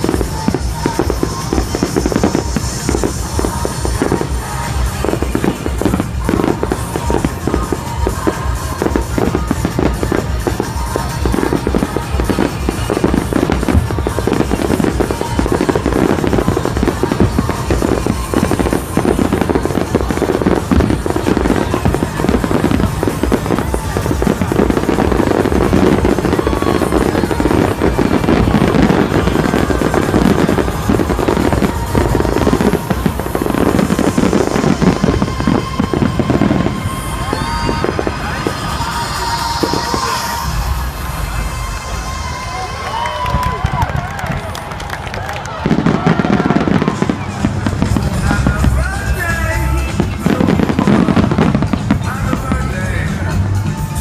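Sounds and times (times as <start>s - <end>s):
fireworks bangs and crackling: 0.0s - 54.0s
music playing: 0.0s - 54.0s.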